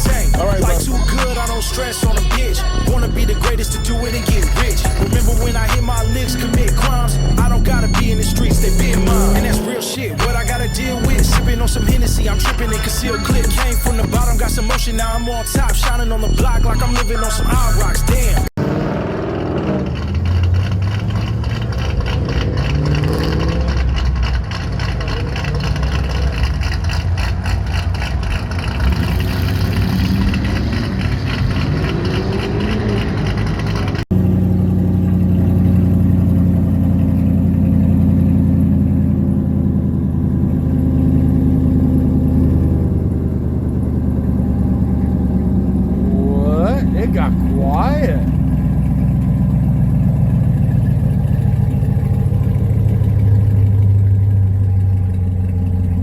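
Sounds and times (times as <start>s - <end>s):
car engine idling: 0.0s - 56.0s
car engines revving: 0.0s - 56.0s.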